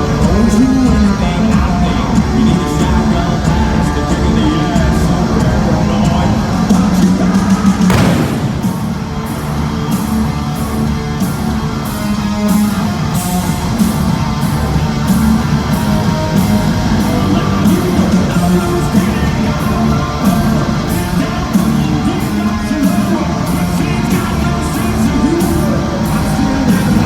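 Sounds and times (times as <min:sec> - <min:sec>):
distorted electric guitars: 0:00.0 - 0:27.0
steady drum beat: 0:00.0 - 0:27.0.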